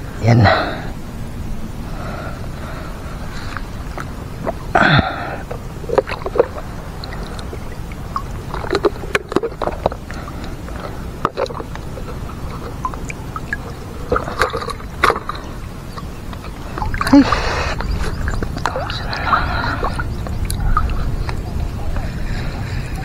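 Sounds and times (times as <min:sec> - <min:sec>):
water sloshing and gurgling: 0:00.0 - 0:23.0.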